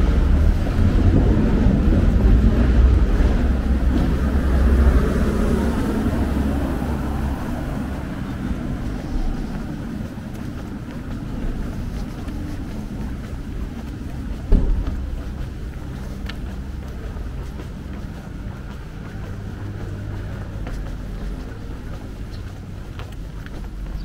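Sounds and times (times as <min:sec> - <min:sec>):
car driving along street: 0:00.0 - 0:24.0.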